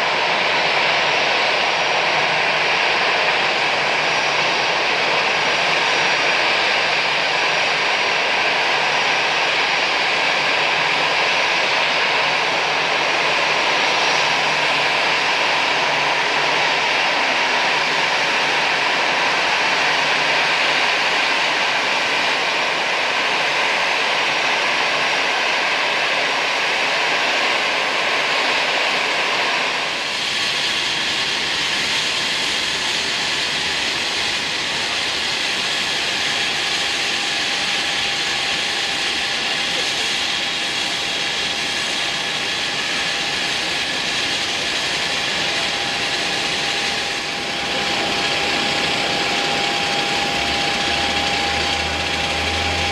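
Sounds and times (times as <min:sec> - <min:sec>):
jet engines whining: 0:00.0 - 0:52.9.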